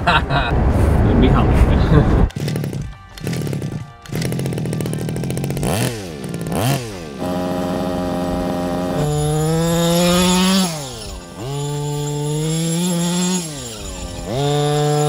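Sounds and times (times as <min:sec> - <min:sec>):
small two-stroke engine revving: 0:02.3 - 0:15.0.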